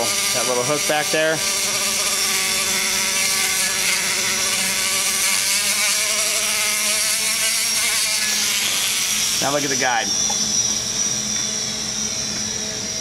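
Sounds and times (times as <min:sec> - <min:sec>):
die grinder whining on metal: 0:00.0 - 0:13.0.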